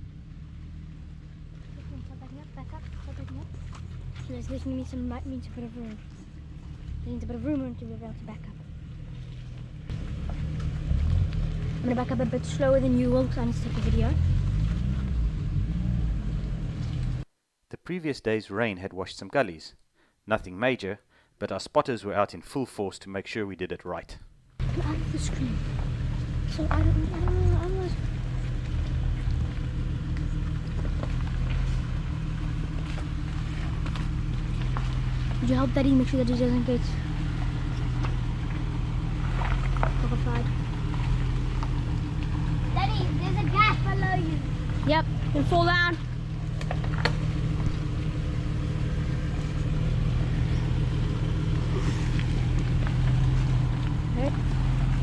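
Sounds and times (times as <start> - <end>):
car engine idling: 0.0 - 17.3, 24.3 - 55.0.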